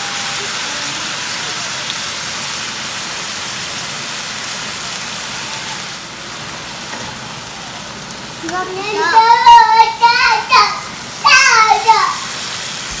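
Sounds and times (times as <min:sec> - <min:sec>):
stir-fry sizzling in pan: 0:00.0 - 0:13.0.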